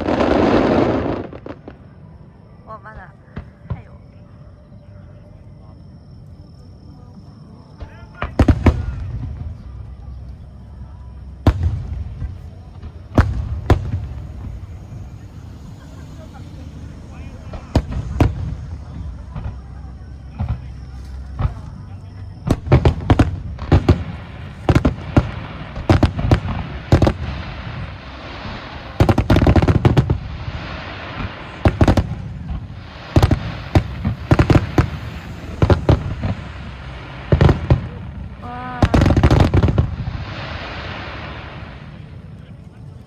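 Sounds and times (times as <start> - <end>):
fireworks bangs: 0.0 - 2.0, 7.8 - 10.2, 11.3 - 42.4
fireworks crackle: 0.0 - 2.1, 7.8 - 43.0.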